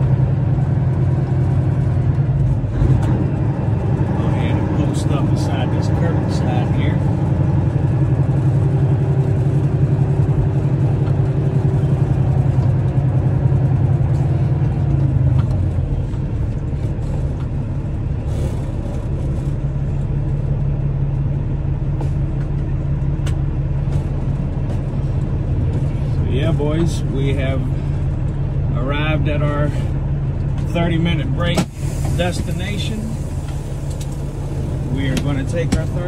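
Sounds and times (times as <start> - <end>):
truck diesel engine rumbling: 0.0 - 36.0.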